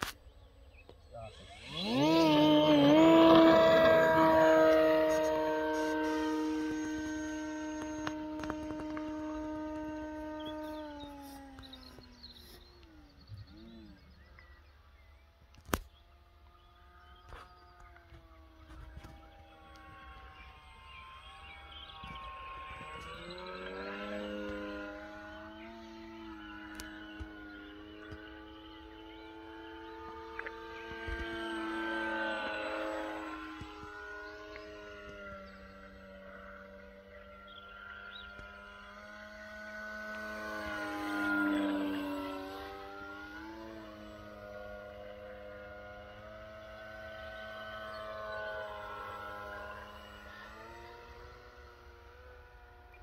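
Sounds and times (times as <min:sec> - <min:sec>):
model aeroplane motor whining: 0:00.0 - 0:53.0.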